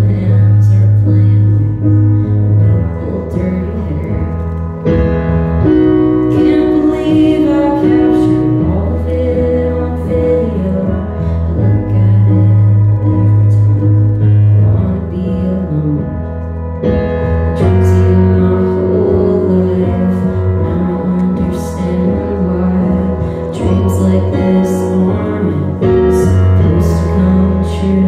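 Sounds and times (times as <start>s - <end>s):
electric bass notes: 0.0s - 28.0s
electric keyboard chords: 0.0s - 28.0s
person singing: 0.0s - 28.0s.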